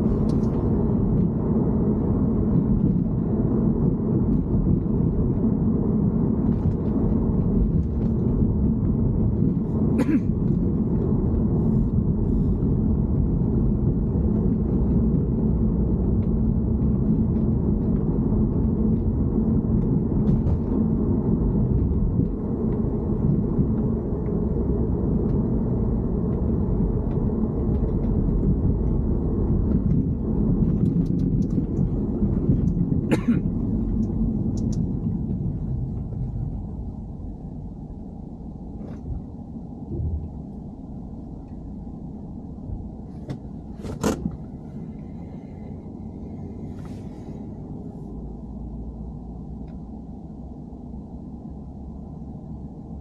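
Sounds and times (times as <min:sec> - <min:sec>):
car engine low rumble: 0:00.0 - 0:53.0.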